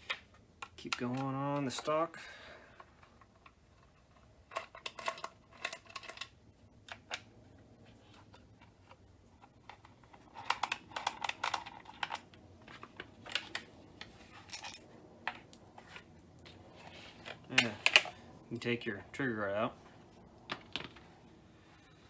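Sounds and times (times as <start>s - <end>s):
plastic parts clicking and clattering: 0.0s - 2.1s, 2.8s - 18.3s, 20.4s - 21.1s.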